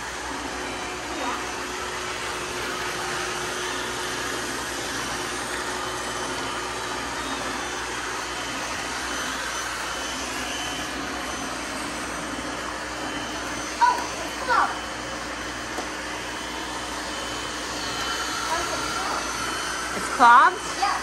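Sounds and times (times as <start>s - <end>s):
robot vacuum whirring: 0.0s - 21.0s.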